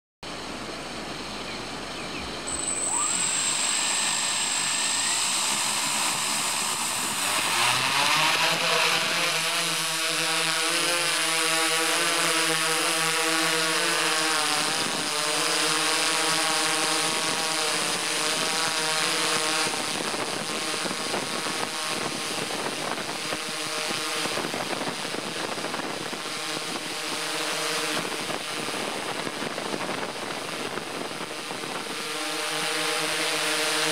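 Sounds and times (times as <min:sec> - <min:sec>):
drone motors whining: 0:00.3 - 0:33.8.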